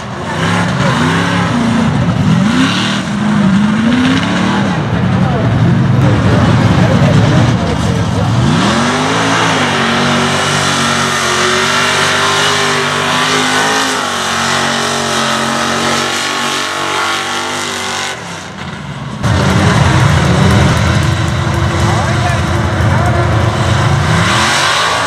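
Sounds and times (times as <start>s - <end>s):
deeper louder engine note: 0.0s - 25.0s
truck engine revving high: 0.0s - 25.0s.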